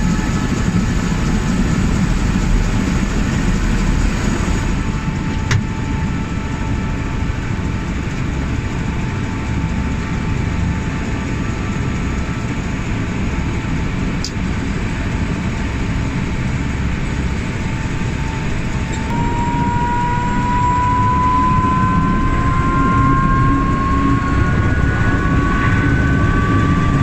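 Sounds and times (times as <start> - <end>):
helicopter turbine and rotor: 0.0 - 27.0.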